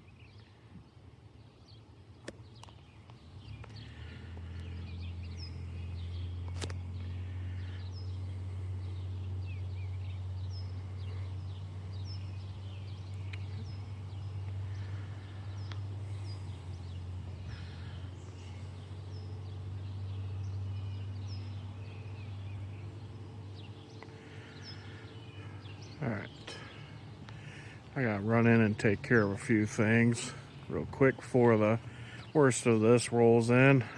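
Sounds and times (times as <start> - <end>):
songbirds chirping: 0.0 - 33.9
steady low hum: 0.0 - 33.9.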